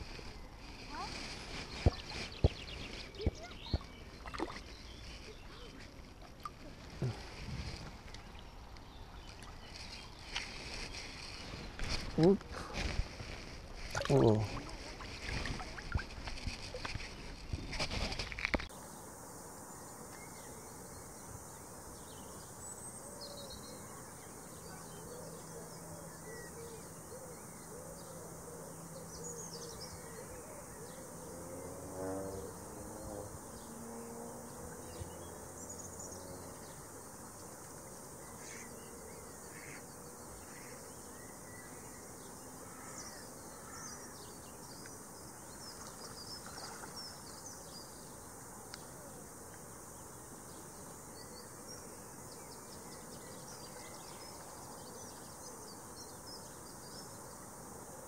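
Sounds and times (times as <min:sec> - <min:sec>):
bird calls: 0:00.0 - 0:18.7, 0:19.7 - 0:58.0
steady low hiss: 0:00.0 - 0:31.6, 0:32.4 - 0:58.0.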